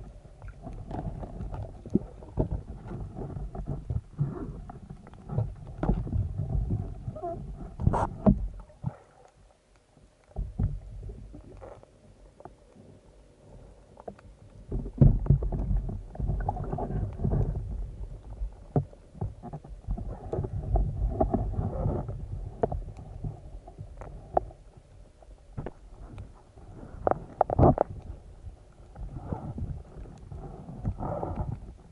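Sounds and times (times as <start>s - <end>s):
water sloshing and rumbling: 0.0s - 31.9s.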